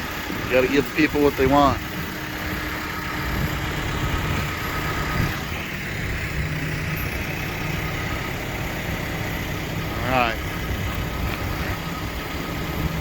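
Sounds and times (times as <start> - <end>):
forklift engine idling: 0.0 - 13.0.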